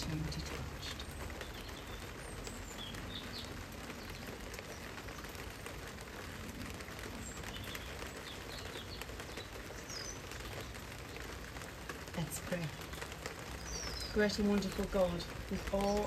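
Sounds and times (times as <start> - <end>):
rain on roof panels: 0.0 - 16.0.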